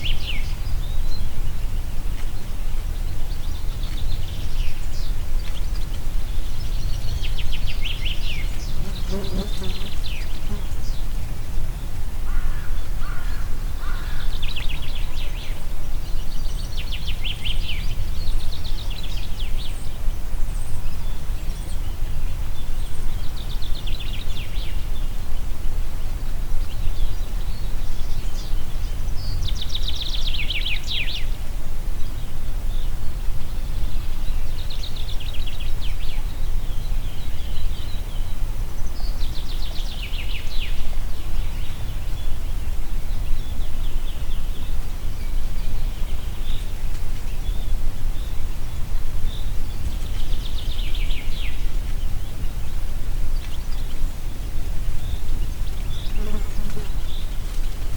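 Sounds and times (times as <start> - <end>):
wind rumbling in forest: 0.0 - 57.9.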